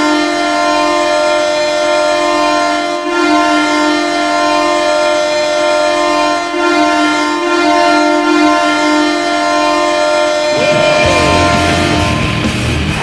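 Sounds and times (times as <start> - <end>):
goal horn air-horn chord: 0.0 - 12.8.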